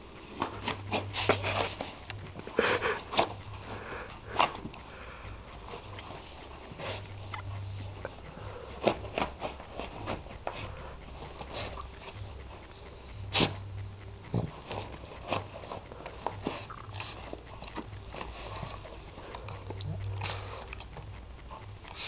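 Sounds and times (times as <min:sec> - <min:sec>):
dog sniffing and snorting: 0:00.1 - 0:22.0.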